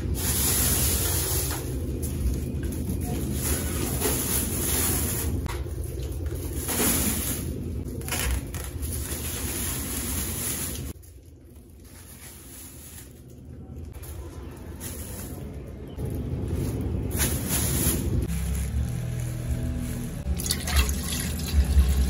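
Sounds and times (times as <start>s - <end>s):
plastic bags crinkling: 0.0s - 21.7s.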